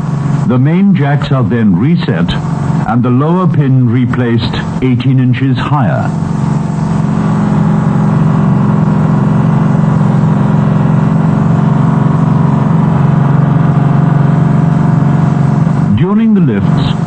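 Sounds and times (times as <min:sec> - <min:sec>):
machine droning: 0:00.0 - 0:17.0.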